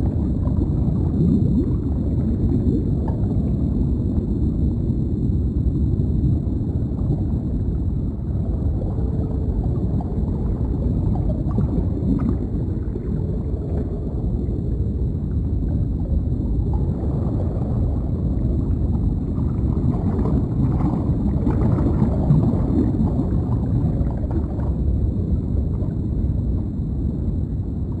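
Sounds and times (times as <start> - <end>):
bubbling gurgles: 0.0 - 28.0
low underwater rumble: 0.0 - 28.0.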